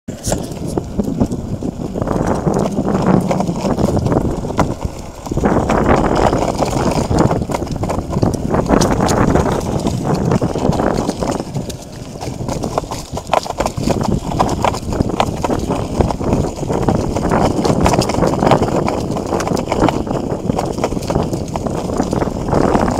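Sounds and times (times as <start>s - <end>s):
wheels rolling over asphalt: 0.1s - 22.9s.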